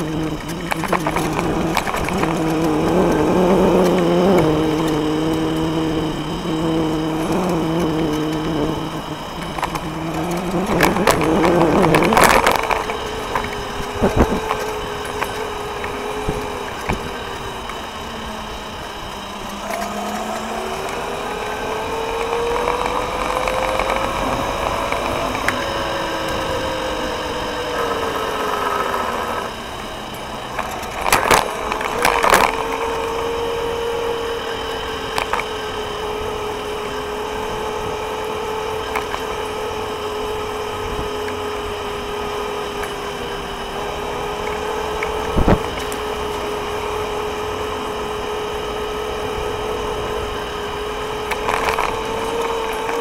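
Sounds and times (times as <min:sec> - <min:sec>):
electric motor whine: 0:00.0 - 0:53.0
road and tyre noise: 0:00.0 - 0:53.0.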